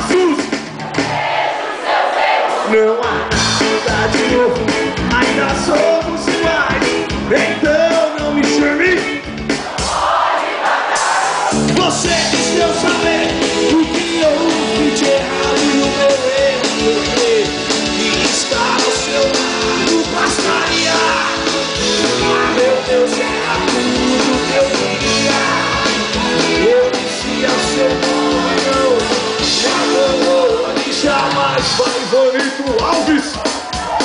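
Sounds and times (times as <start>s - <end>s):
live rock band playing: 0.0s - 1.3s, 3.0s - 10.1s, 11.0s - 34.0s
person singing: 3.6s - 9.2s, 11.6s - 33.4s.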